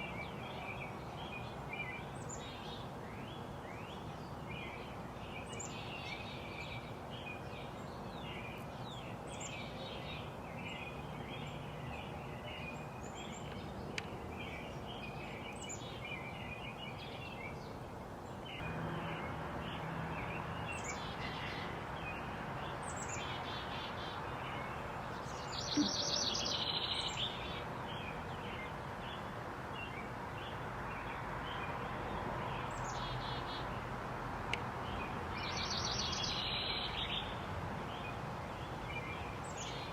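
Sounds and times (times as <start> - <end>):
birds chirping: 0.0 - 33.9, 34.5 - 39.9
steady background hiss: 0.0 - 39.9.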